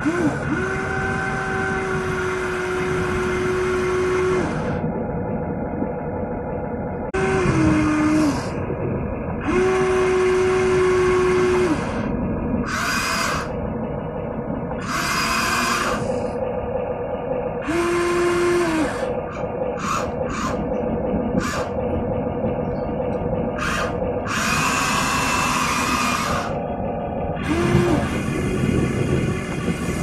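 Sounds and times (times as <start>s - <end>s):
electric motors whining: 0.0s - 30.0s
steady hum: 0.0s - 30.0s.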